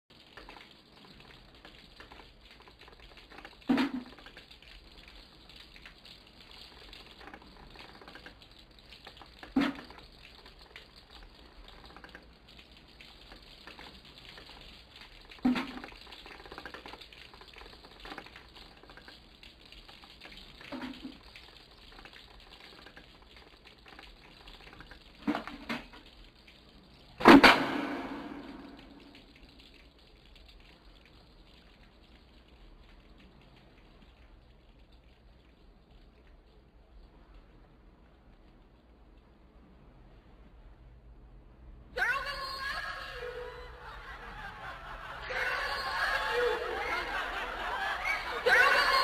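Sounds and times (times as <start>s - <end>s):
faint background noise: 0.1s - 49.0s.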